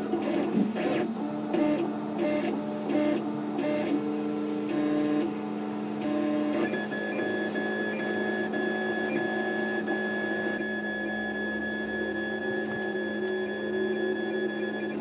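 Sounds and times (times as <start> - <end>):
stepper motors whining: 0.1 - 15.0.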